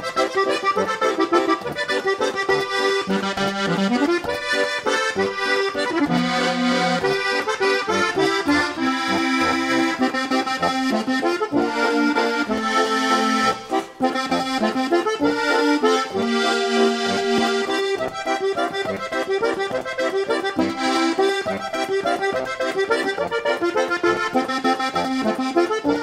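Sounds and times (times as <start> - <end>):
button accordion playing: 0.0 - 26.0.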